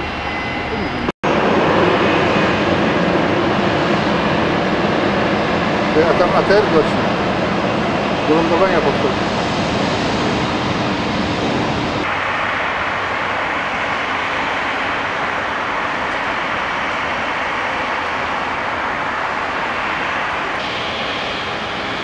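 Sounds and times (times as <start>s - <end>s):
jet engines rushing hiss: 0.0s - 22.0s.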